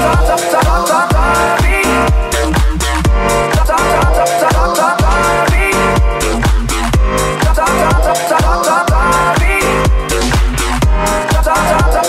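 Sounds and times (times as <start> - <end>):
deep kick drum: 0.0 - 12.0
electronic dance-pop music: 0.0 - 12.0.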